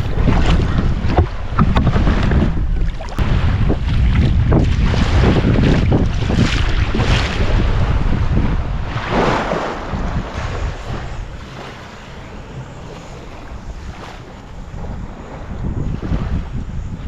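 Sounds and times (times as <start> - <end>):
waves washing on shore: 0.0 - 17.0
wind buffeting microphone: 0.0 - 17.0.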